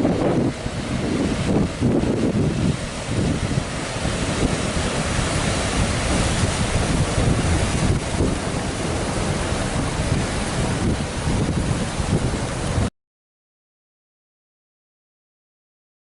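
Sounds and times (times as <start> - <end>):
water rushing: 0.0 - 12.9
wind buffeting microphone: 0.0 - 12.9.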